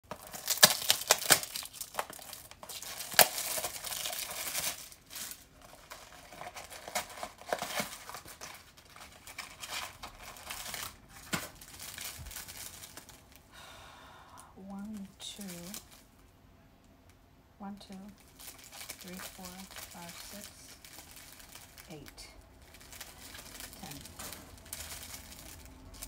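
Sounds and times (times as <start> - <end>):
packaging crinkling and tearing: 0.0 - 13.5, 14.9 - 16.3, 17.9 - 26.0.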